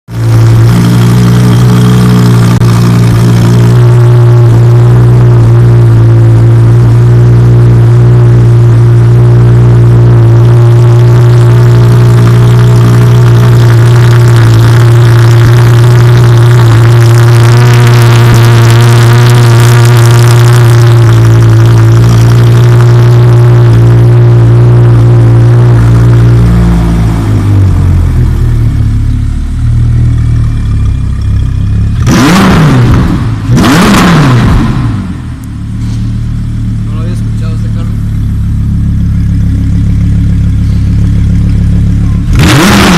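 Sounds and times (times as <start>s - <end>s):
car engine idling: 0.1s - 42.9s
engine throttle blips: 0.1s - 42.9s.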